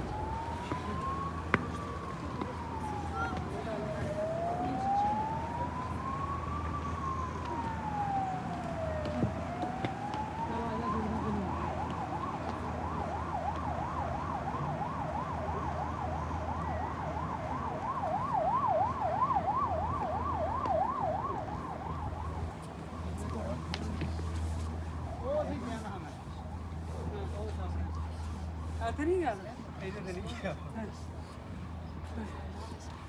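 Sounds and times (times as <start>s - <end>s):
emergency siren wailing and yelping: 0.0s - 30.4s.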